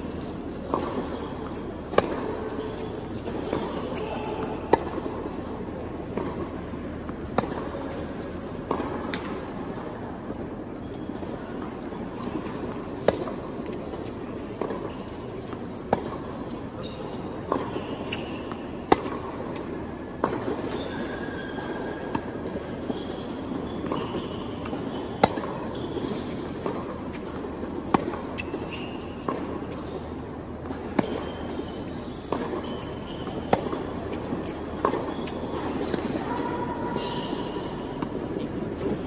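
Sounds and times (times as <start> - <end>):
background crowd hubbub: 0.0 - 39.0
tennis balls struck with rackets: 0.2 - 10.5, 11.1 - 22.9, 23.5 - 36.2.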